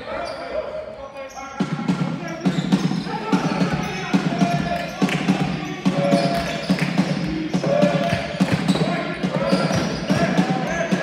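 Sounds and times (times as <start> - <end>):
basketballs bouncing on court: 1.6 - 11.0.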